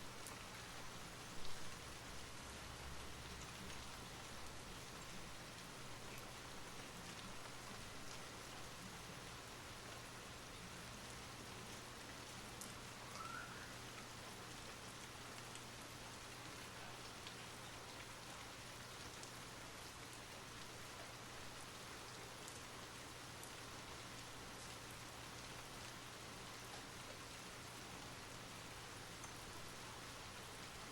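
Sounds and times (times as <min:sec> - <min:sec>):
soft rain falling: 0:00.0 - 0:30.9.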